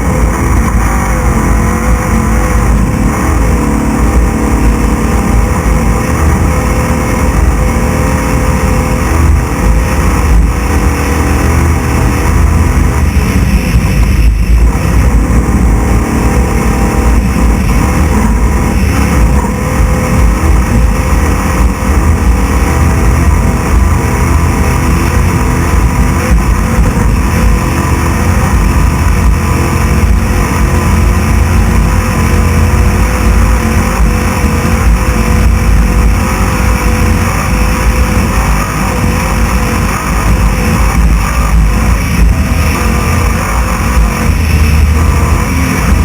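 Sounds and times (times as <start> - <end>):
race truck engine running hard: 0.0 - 46.0.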